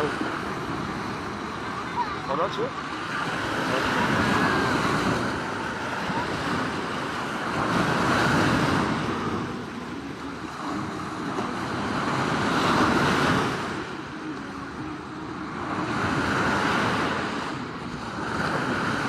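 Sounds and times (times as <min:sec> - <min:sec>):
sea waves breaking on shore: 0:00.0 - 0:19.0.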